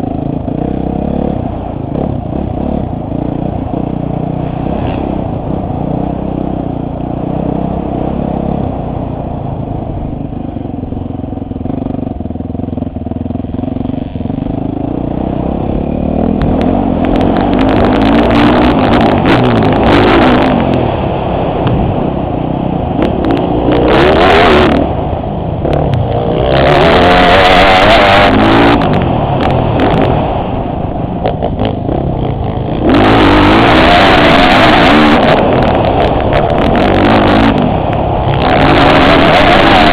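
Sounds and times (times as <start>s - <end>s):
motocross bike engine revving: 0.0s - 8.9s, 11.6s - 39.9s.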